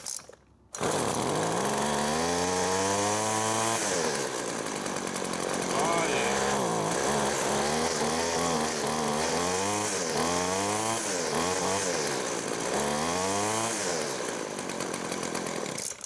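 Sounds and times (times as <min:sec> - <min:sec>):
string trimmer engine revving: 0:00.8 - 0:16.0.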